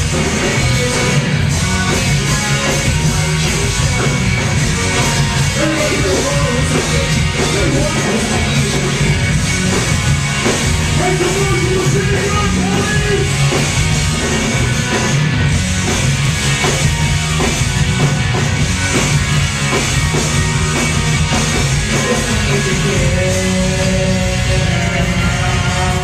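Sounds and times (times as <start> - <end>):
distorted electric guitar: 0.0 - 26.0
live rock band playing: 0.0 - 26.0
pounding drums: 0.0 - 26.0.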